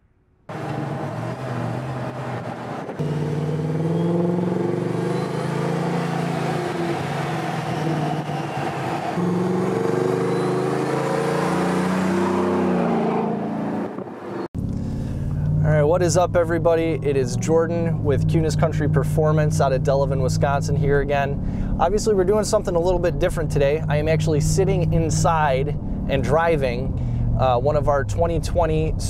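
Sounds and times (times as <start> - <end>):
pickup truck engine revving: 0.5 - 27.4.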